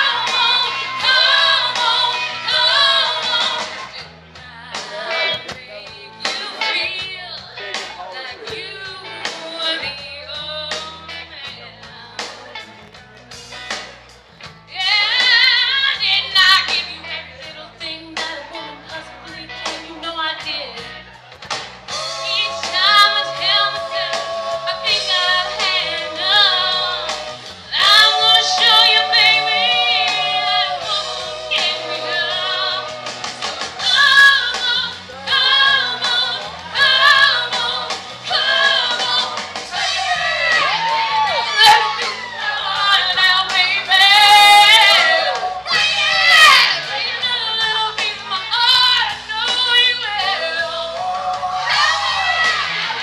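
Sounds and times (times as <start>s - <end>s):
woman singing: 0.0s - 3.8s, 4.4s - 12.4s, 14.7s - 20.8s, 22.2s - 33.0s, 33.8s - 53.0s
band music with steady beat: 0.0s - 53.0s.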